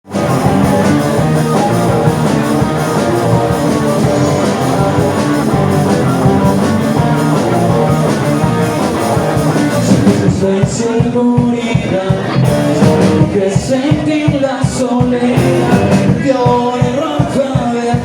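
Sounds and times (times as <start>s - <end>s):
band playing instrumental: 0.0s - 18.0s.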